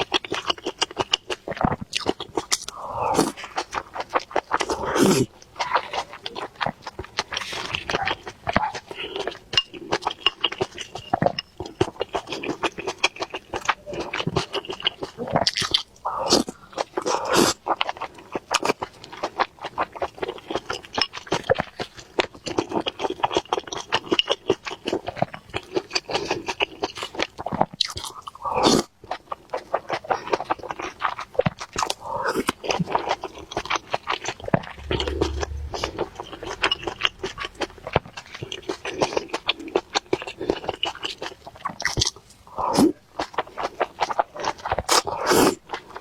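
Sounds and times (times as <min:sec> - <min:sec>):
chewing food: 0:00.0 - 0:46.0.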